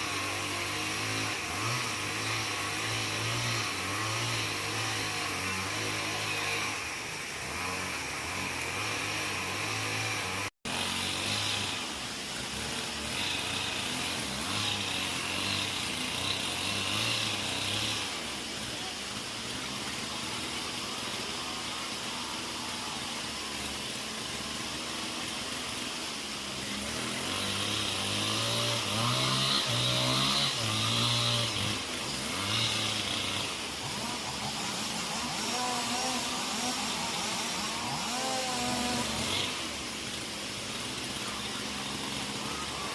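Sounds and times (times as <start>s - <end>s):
chainsaw engine revving: 0.0s - 42.9s.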